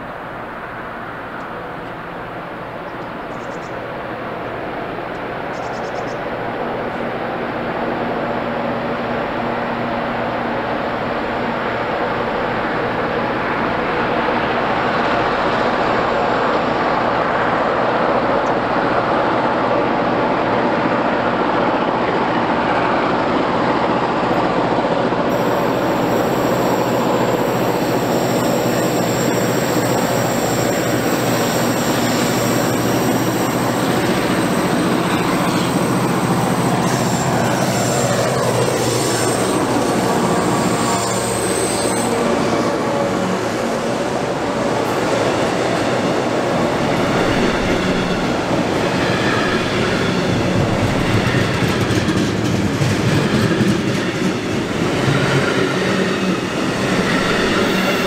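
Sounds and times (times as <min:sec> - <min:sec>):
diesel locomotive engines: 0:00.0 - 0:58.0
wheel and rail noise: 0:00.0 - 0:58.0.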